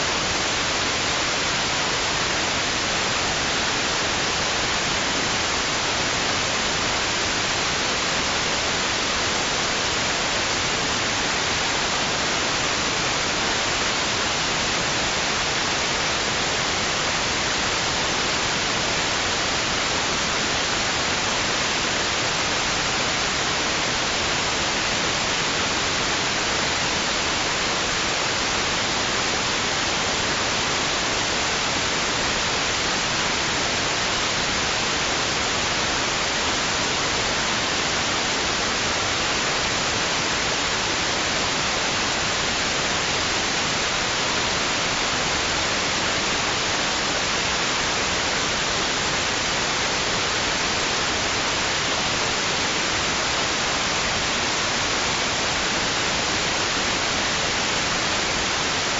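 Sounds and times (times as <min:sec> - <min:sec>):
steady white noise hiss: 0:00.0 - 0:58.9.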